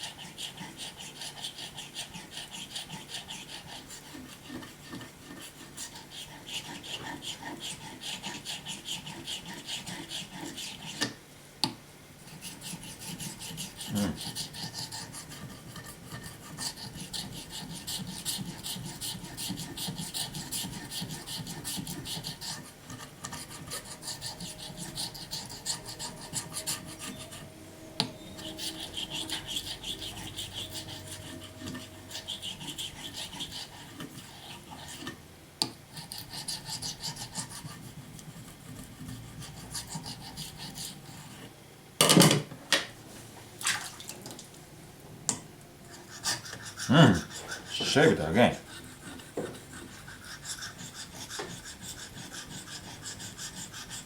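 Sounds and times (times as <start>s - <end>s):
knife rasping on whetstone: 0.0s - 11.2s, 12.3s - 35.2s, 35.9s - 41.5s, 45.9s - 54.0s.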